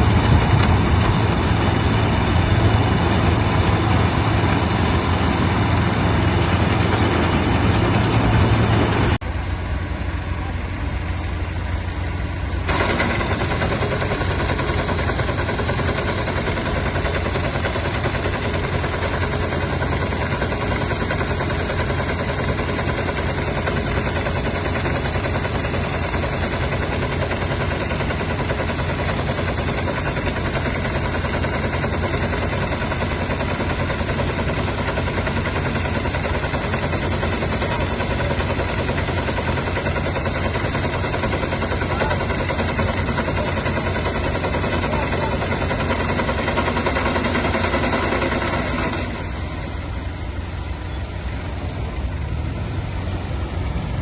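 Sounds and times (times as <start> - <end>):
combine harvester engine and machinery: 0.0 - 54.0.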